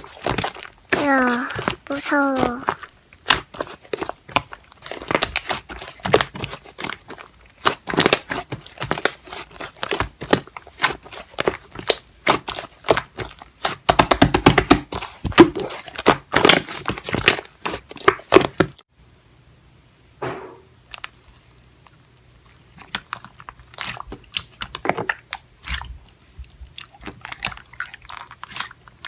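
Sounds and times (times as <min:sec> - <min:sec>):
slime squishing and crackling: 0:00.0 - 0:18.8, 0:20.8 - 0:29.0.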